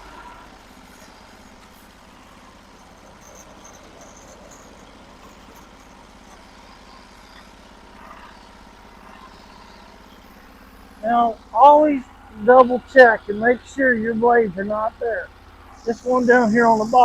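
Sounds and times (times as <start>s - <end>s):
sawmill gasoline engine running: 0.0s - 17.0s.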